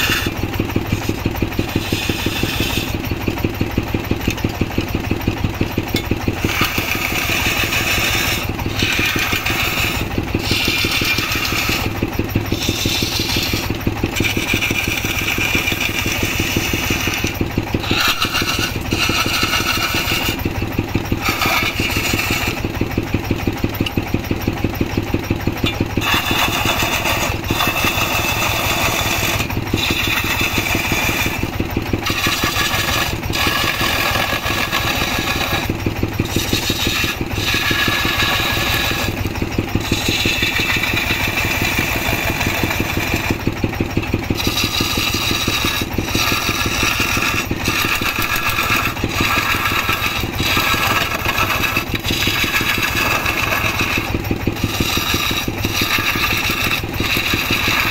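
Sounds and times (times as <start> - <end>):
chisel scraping spinning wood: 0.0 - 57.9
wood lathe low drone: 0.0 - 57.9.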